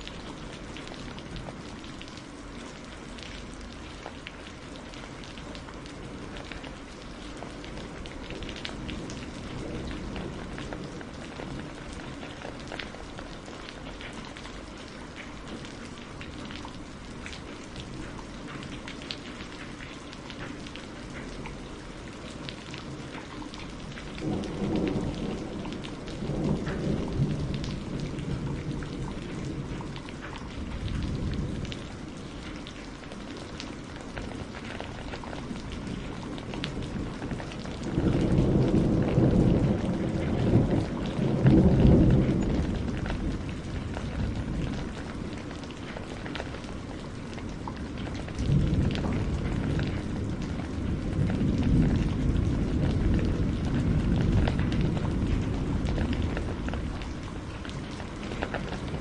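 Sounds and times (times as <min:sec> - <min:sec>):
steady rain falling: 0:00.0 - 0:59.0
thunder rumbling: 0:02.6 - 0:14.4, 0:20.5 - 0:59.0.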